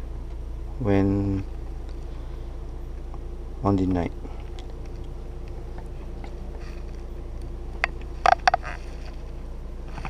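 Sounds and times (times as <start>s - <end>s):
low car cabin hum: 0.0s - 10.0s.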